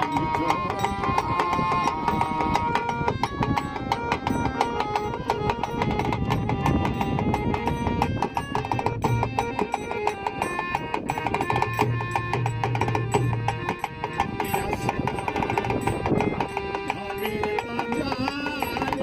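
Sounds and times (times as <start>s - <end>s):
fast percussion rhythm: 0.0s - 19.0s
folk melody instrument: 0.0s - 19.0s.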